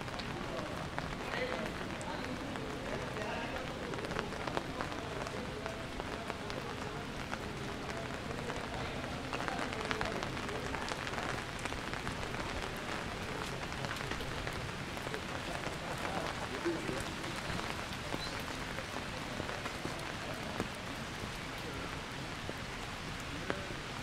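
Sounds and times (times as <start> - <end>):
rain on hard surfaces: 0.0 - 24.0.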